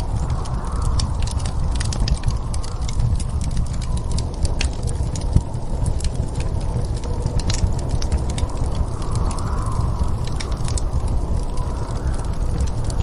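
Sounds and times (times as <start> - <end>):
low rumble of storm wind: 0.0 - 13.0
wood fire crackling and popping: 0.0 - 13.0.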